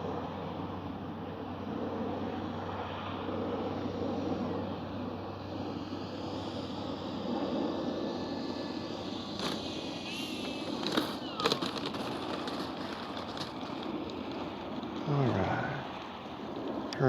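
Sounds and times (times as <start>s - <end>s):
model plane rolling on pavement: 0.0s - 17.0s.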